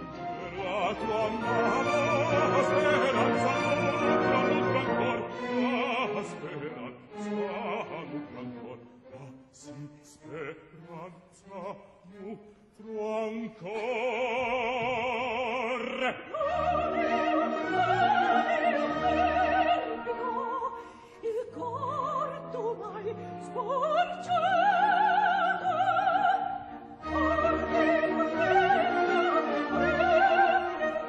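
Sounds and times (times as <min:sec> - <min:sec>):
opera orchestra: 0:00.0 - 0:31.0
operatic soprano singing: 0:00.0 - 0:31.0.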